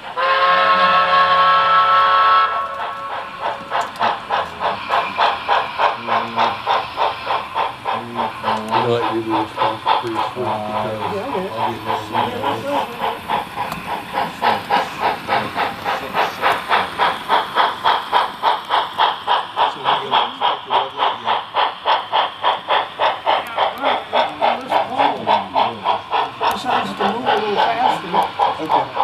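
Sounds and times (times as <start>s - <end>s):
steam hissing: 0.0s - 29.0s
steam locomotive exhaust chuffs: 0.0s - 29.0s.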